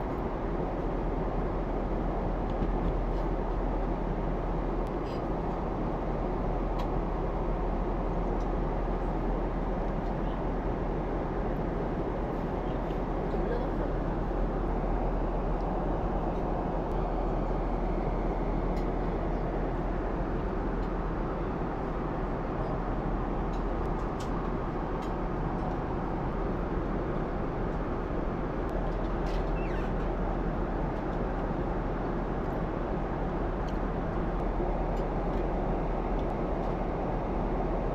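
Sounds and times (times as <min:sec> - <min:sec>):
airliner cabin roar: 0:00.0 - 0:37.9.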